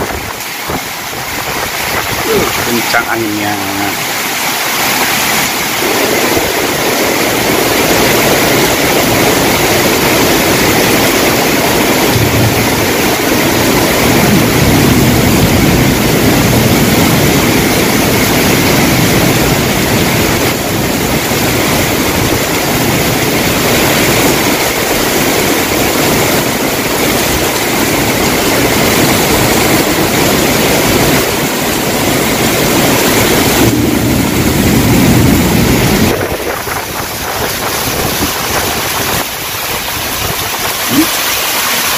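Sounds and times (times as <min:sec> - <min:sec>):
wind buffeting microphone: 0:00.0 - 0:02.8, 0:03.9 - 0:41.4
heavy rain pouring: 0:00.0 - 0:41.9.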